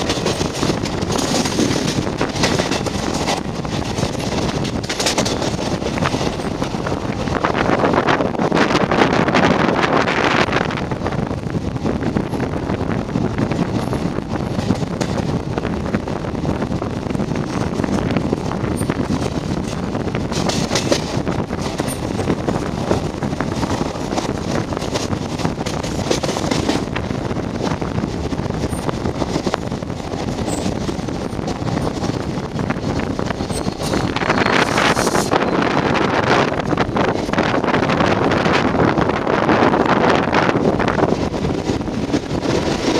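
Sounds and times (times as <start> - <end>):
diesel locomotive passing: 0.0 - 42.9
train wheels on rail: 0.0 - 42.9
wind on microphone: 0.0 - 42.9.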